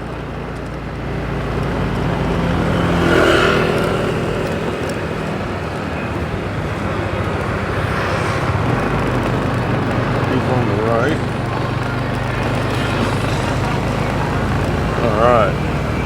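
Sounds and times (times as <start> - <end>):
motorbike engine running: 0.0 - 16.0
road and traffic noise: 0.0 - 16.0.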